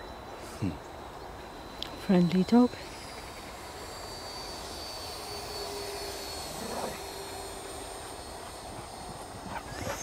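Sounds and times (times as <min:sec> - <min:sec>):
model jet fan whining: 0:00.0 - 0:10.0.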